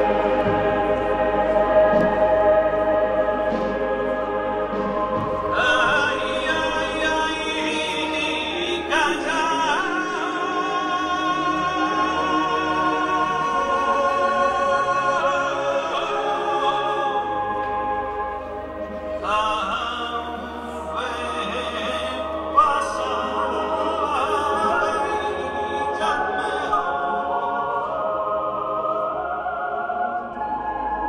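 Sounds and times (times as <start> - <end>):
music with sustained singing: 0.0 - 31.0.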